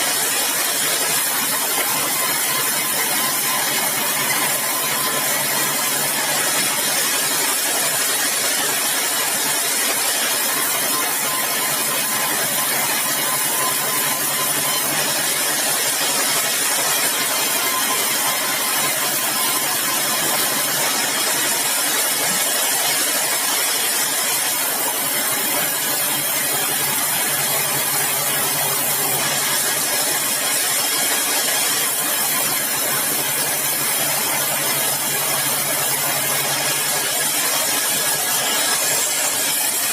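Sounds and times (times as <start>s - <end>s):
sawmill saw droning: 0.0s - 39.9s.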